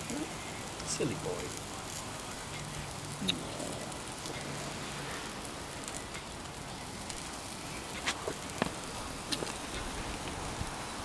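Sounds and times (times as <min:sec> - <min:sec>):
crackles and pops: 0:00.0 - 0:11.0
steak sizzling on a grill: 0:00.0 - 0:11.0.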